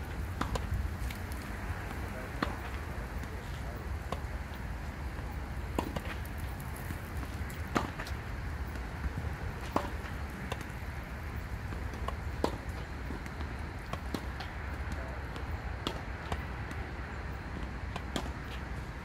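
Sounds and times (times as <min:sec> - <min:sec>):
tennis balls bouncing: 0:00.0 - 0:18.9
tennis balls struck by rackets: 0:00.0 - 0:19.0.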